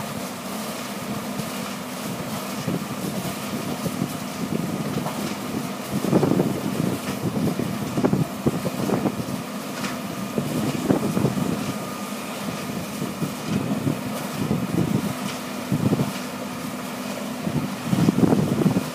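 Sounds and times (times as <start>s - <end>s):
heavy diesel machinery drone: 0.0s - 18.9s.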